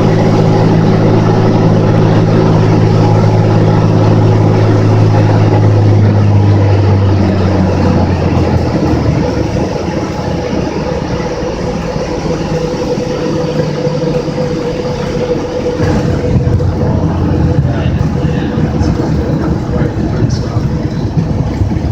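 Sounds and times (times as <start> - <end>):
propeller plane engine running: 0.0 - 21.9.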